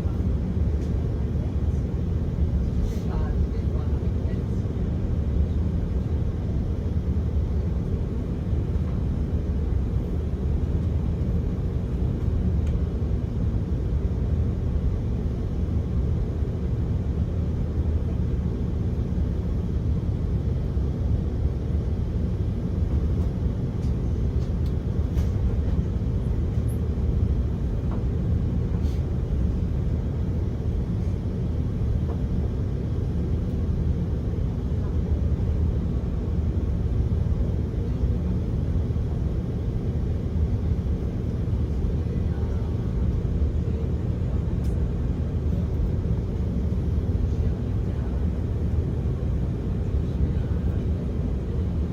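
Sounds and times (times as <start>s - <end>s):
aircraft cabin engine rumble: 0.0s - 51.9s.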